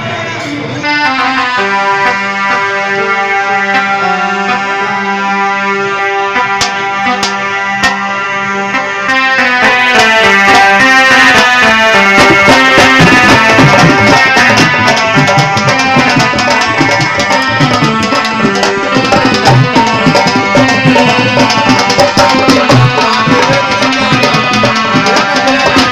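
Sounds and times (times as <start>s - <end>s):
sustained melody: 0.2s - 25.9s
tabla drumming: 0.8s - 8.2s, 9.1s - 25.9s.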